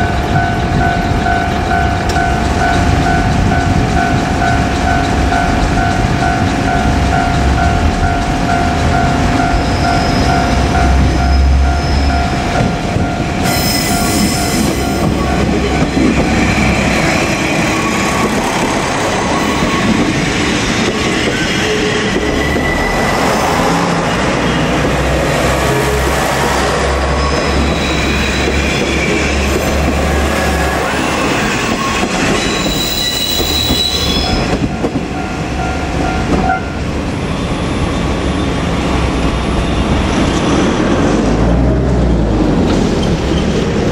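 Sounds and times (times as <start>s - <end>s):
level crossing warning bell: 0.0s - 37.2s
wheels squealing on rails: 0.0s - 41.6s, 42.2s - 43.9s
diesel railcar engine passing: 0.0s - 43.9s.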